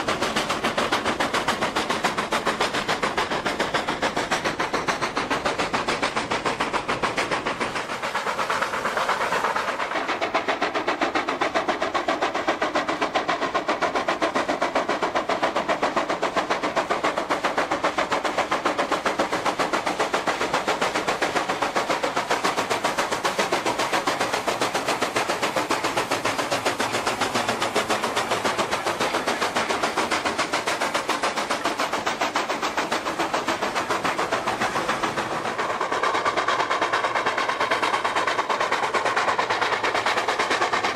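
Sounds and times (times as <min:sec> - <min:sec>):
steam locomotive chuffing: 0:00.0 - 0:40.9.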